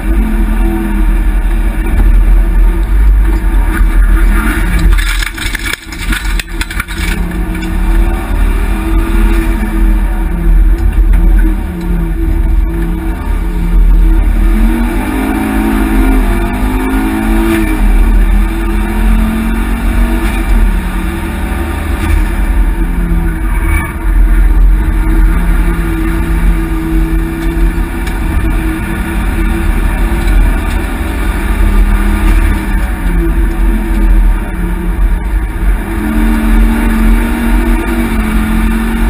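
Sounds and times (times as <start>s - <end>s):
car engine revving: 0.0s - 39.0s
road and wind noise: 0.0s - 39.0s.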